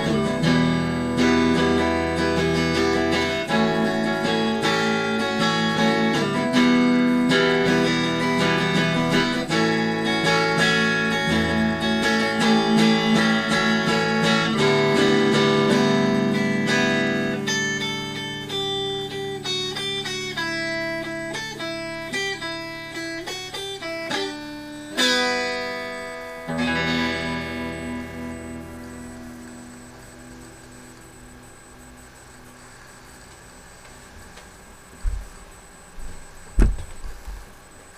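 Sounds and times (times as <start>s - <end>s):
electric guitar playing rock: 0.0s - 33.3s.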